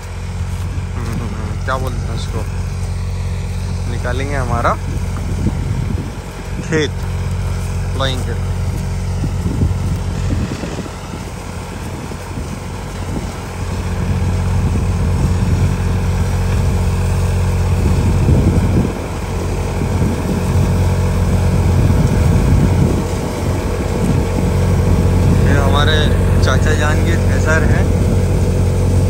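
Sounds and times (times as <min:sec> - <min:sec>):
thresher drum whirring: 0:00.0 - 0:29.0
tractor diesel engine running: 0:00.0 - 0:29.0.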